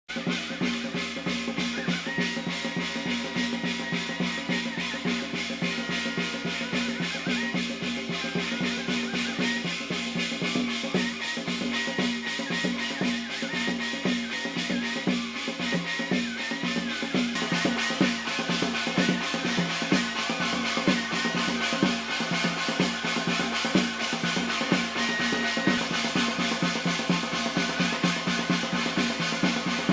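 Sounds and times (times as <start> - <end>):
rapid drum strokes: 0.1 - 29.9.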